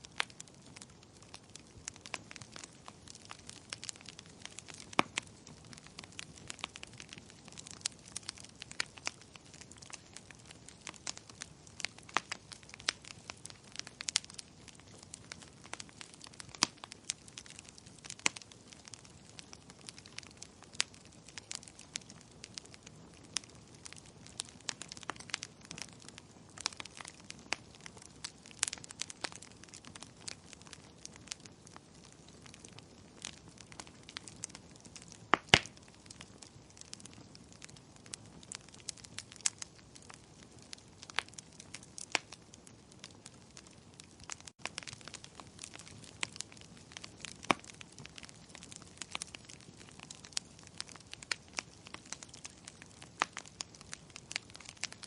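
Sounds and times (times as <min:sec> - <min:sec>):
hiss of burning logs: 0:00.0 - 0:55.0
wood fire crackling: 0:00.0 - 0:55.0.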